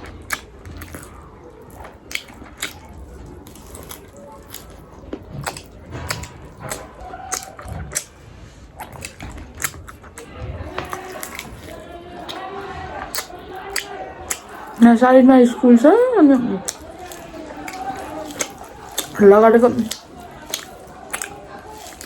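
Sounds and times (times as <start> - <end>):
wet mouth clicks and smacks: 0.0 - 14.8, 16.6 - 22.0
chewing and biting food: 0.0 - 22.0.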